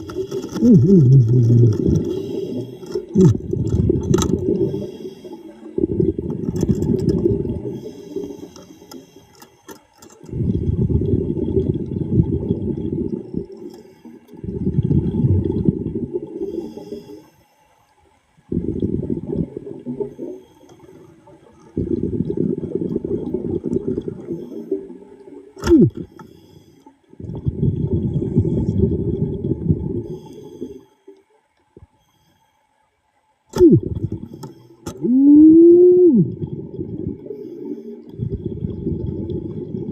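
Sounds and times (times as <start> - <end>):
underwater bubbles from breath: 0.0 - 32.4, 33.5 - 39.9.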